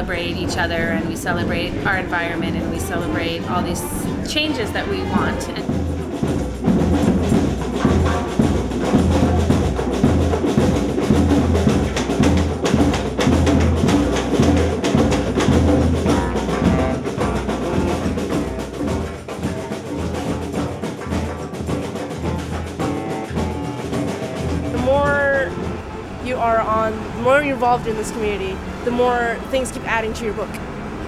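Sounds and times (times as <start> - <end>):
rapid hand-drum strikes: 0.0 - 27.7
percussion music: 0.0 - 30.6
low drum pulse: 0.2 - 27.1.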